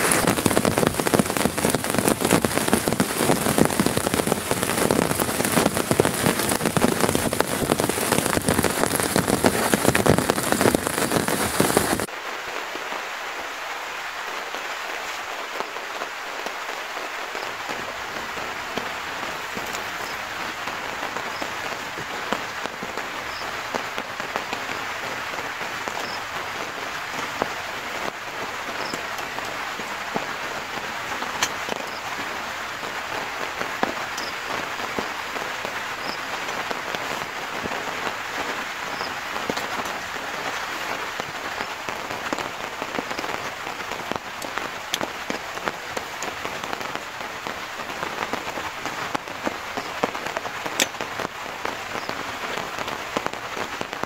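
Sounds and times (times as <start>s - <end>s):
rain on a tarp: 0.0s - 54.0s.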